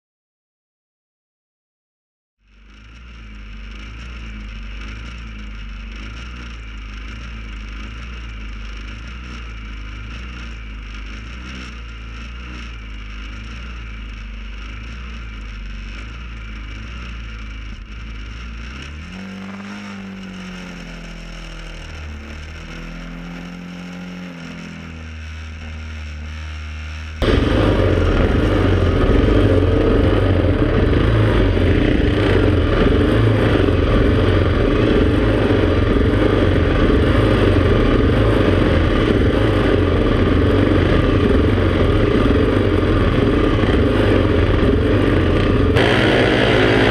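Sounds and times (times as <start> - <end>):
motorcycle engines revving: 2.4 - 46.9.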